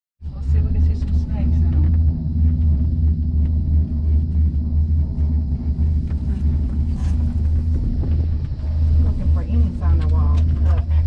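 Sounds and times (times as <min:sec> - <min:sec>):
steady low rumble: 0:00.2 - 0:11.0.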